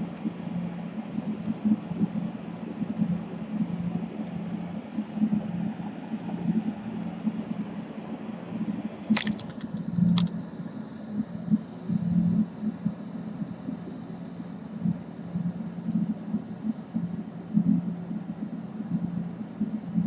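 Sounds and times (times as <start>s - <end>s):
electric fan humming: 0.0s - 18.2s.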